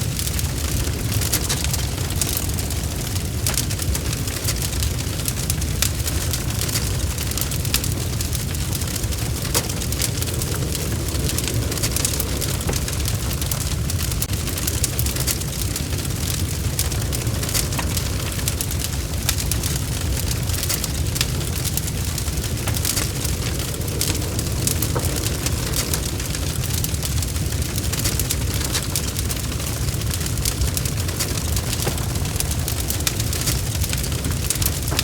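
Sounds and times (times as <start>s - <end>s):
fire crackling and popping: 0.0s - 35.0s
wood fire rumbling: 0.0s - 35.0s.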